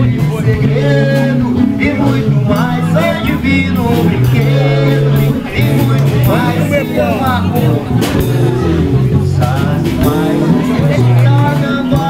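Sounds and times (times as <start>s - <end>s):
bass guitar: 0.0s - 12.0s
drums: 0.0s - 12.0s
electric guitars: 0.0s - 12.0s
man singing: 0.0s - 12.0s.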